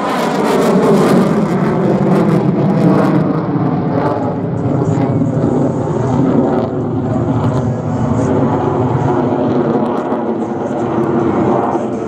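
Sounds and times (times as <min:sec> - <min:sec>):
jet engine noise overhead: 0:00.0 - 0:12.0.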